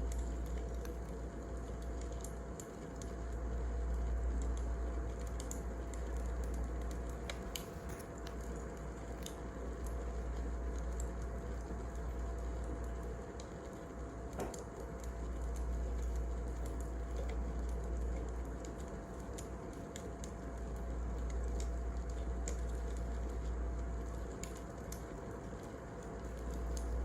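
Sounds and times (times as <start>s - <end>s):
fire crackling and popping: 0.0s - 27.0s
wood fire burning: 0.0s - 27.0s.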